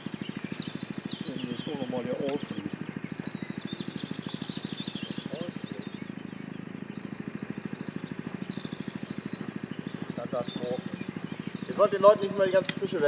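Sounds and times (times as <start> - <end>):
birds chirping: 0.0 - 13.0
low pulsing throb: 0.0 - 13.0.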